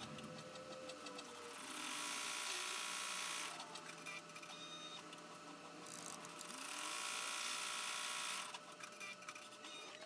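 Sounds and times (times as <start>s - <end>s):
embroidery machine humming and rattling: 0.0s - 10.0s.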